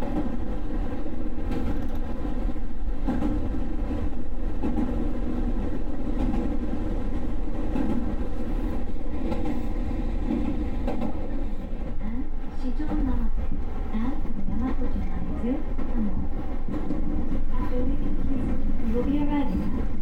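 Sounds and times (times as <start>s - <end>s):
electric train rumbling on rails: 0.0s - 20.0s.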